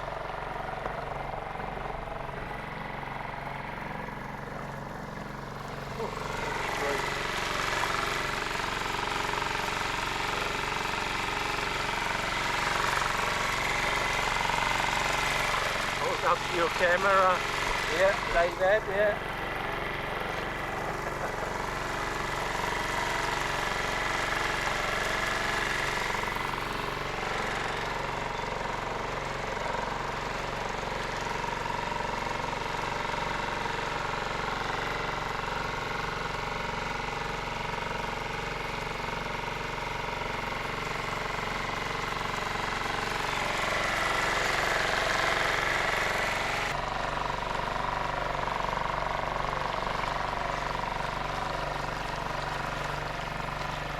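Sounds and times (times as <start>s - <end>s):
outboard motor droning: 0.0s - 53.9s.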